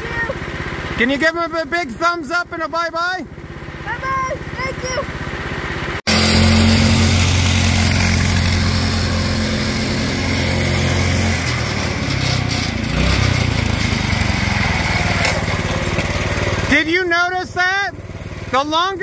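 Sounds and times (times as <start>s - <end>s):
go-kart engine on rev limiter: 0.0s - 2.2s, 3.3s - 19.0s.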